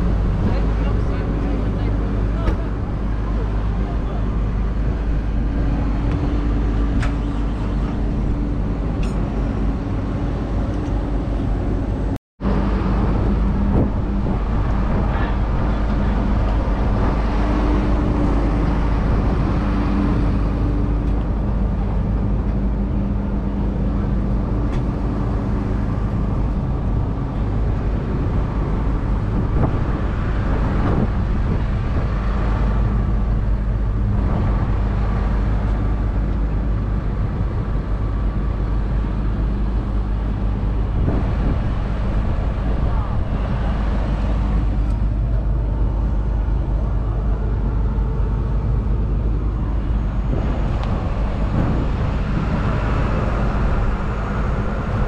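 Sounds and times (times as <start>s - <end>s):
diesel tractor engines running: 0.0s - 55.0s
wind rumble on microphone: 0.0s - 55.0s.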